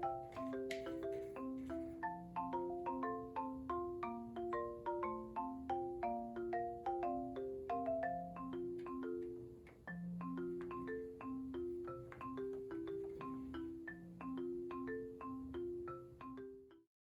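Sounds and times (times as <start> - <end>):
bouncy marimba tune: 0.0 - 16.9.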